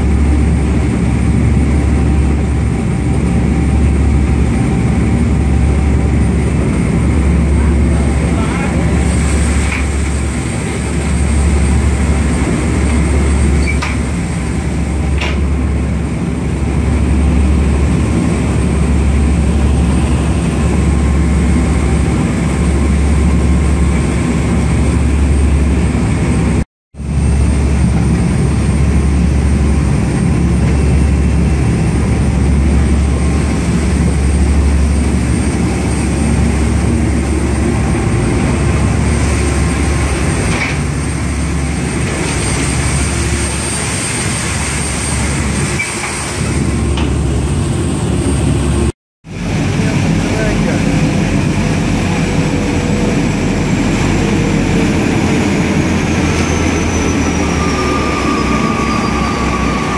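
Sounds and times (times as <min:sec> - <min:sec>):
boat engines droning: 0:00.0 - 0:59.9
rushing wake water: 0:00.0 - 0:59.9.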